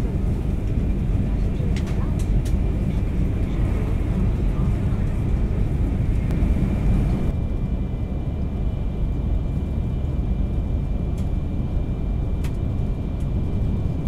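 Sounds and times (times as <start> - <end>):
train cabin low rumble: 0.0 - 14.0.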